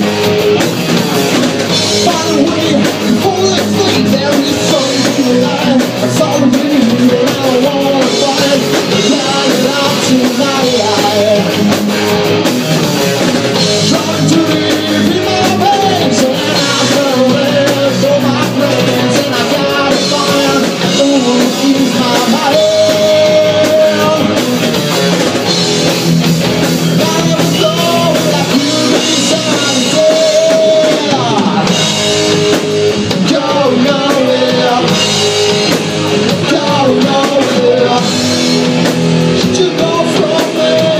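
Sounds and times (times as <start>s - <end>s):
rock band playing: 0.0s - 40.9s
man singing: 1.7s - 11.8s, 13.5s - 24.6s, 26.8s - 38.6s, 39.3s - 40.9s.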